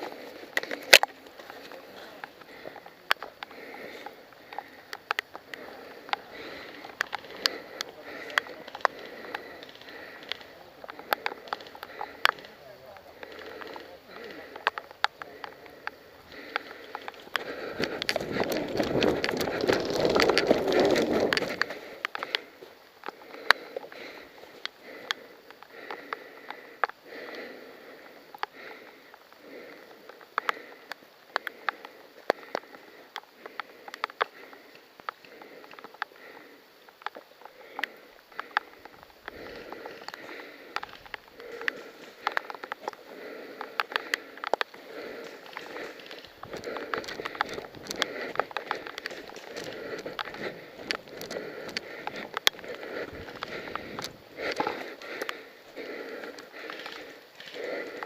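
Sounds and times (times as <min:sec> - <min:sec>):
rustling through undergrowth: 0:00.0 - 0:25.7, 0:37.2 - 0:58.0
person breathing: 0:00.0 - 0:58.0
sharp clicks and snaps: 0:00.5 - 0:01.6, 0:02.2 - 0:58.0.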